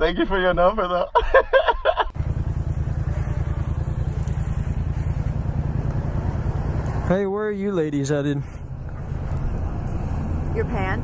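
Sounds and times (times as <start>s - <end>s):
motorcycle engine running: 2.1s - 11.0s.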